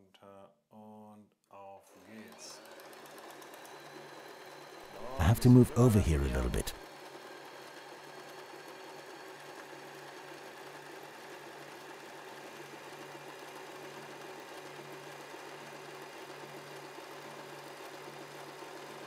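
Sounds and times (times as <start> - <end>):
sewing machine running: 2.0 - 5.1, 6.8 - 19.0.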